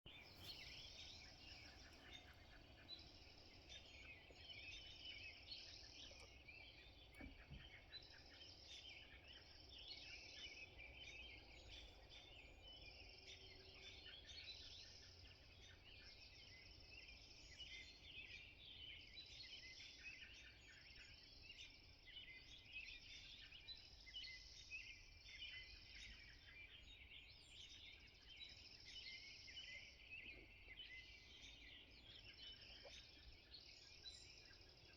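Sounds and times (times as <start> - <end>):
songbirds chirping and singing: 0.1 - 34.9.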